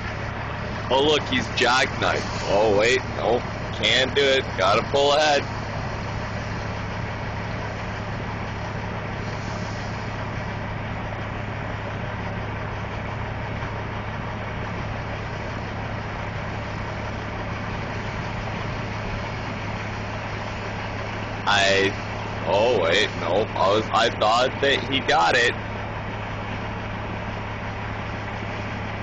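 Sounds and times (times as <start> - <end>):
truck diesel engine idling: 0.0 - 29.0.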